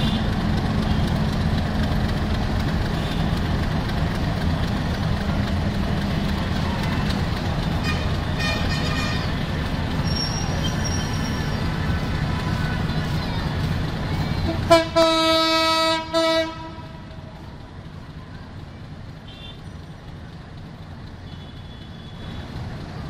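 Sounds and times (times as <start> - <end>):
locomotive engine drone: 0.0 - 23.0.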